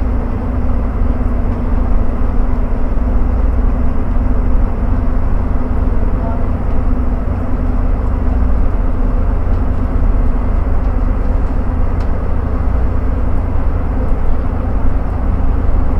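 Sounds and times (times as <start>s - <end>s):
bus engine rumble: 0.0s - 15.9s
road noise: 0.0s - 15.9s.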